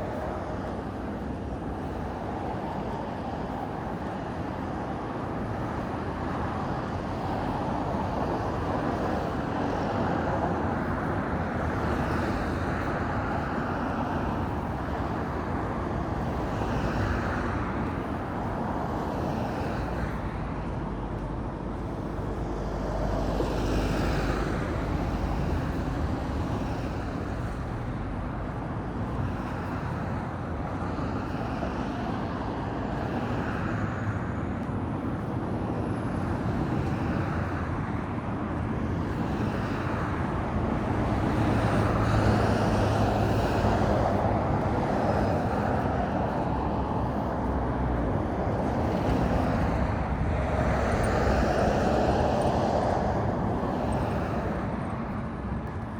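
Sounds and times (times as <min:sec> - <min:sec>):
cars passing: 0:00.0 - 0:55.9
steady traffic hum: 0:00.0 - 0:55.9.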